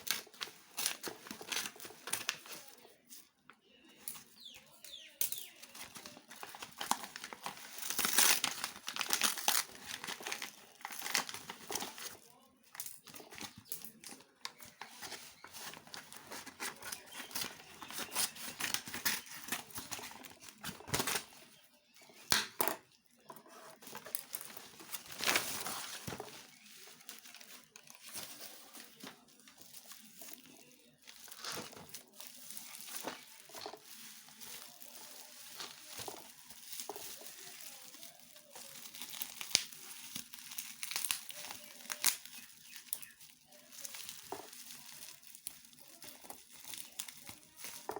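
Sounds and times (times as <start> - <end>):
packaging crinkling and tearing: 0.0 - 3.3, 4.0 - 21.4, 23.5 - 47.9.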